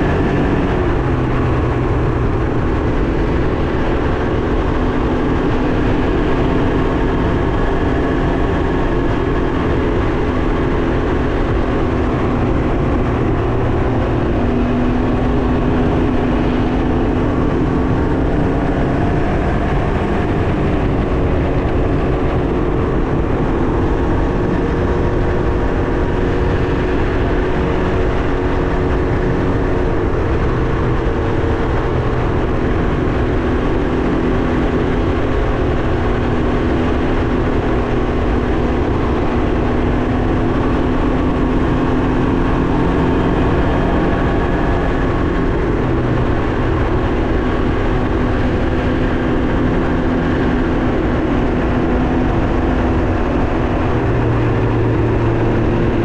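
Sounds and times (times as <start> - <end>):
motorcycle engine cruising: 0.0 - 56.0
wind and road rush: 0.0 - 56.0.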